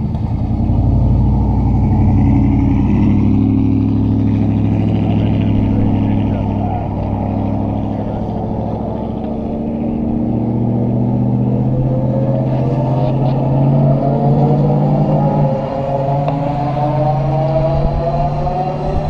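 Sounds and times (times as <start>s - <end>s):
pickup truck engine drone: 0.0s - 19.0s
rising wheel whine: 0.0s - 19.0s.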